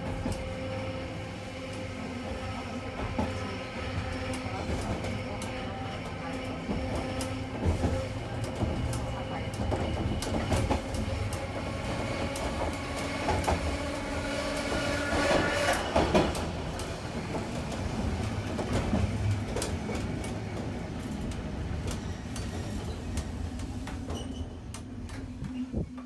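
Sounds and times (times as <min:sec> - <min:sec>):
tram rumbling: 0:00.0 - 0:26.0.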